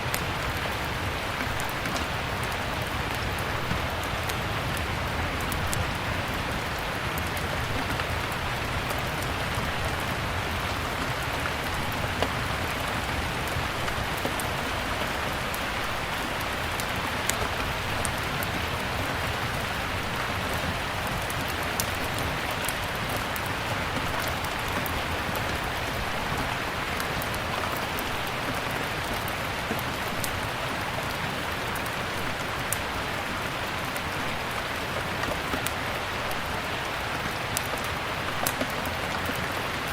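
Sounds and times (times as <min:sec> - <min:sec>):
rain hissing: 0:00.0 - 0:39.9
wood fire crackling and popping: 0:00.0 - 0:39.9.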